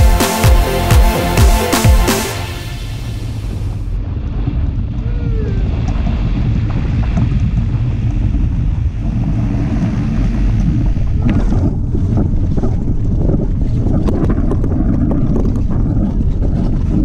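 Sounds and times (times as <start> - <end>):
wind buffeting microphone: 3.2 - 17.0.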